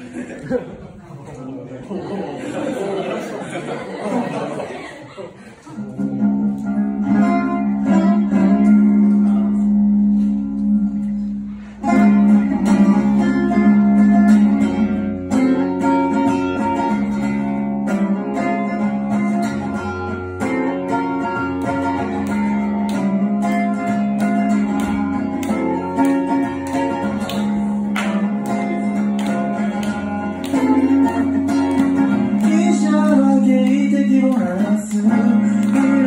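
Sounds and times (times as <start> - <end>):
acoustic guitar strumming: 5.8 - 36.0.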